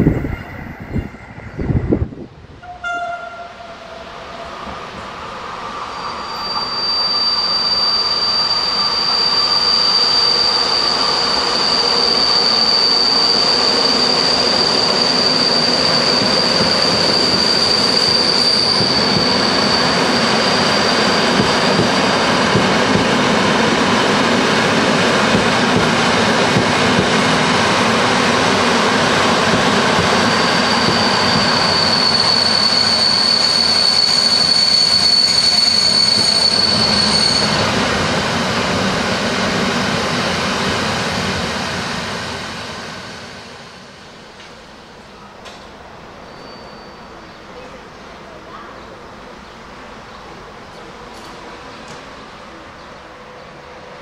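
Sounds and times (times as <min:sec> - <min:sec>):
train rolling into station: 0:00.0 - 0:54.0
high-pitched train squeal: 0:02.6 - 0:44.0, 0:44.9 - 0:47.8.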